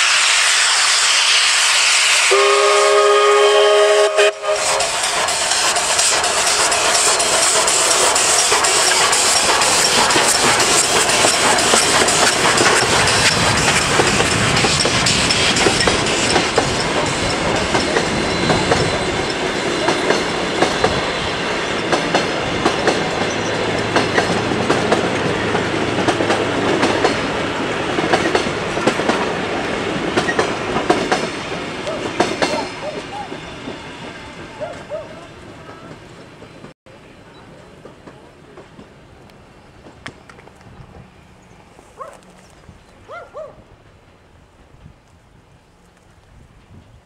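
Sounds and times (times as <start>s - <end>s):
train wheels clacking on rails: 0.8s - 41.7s.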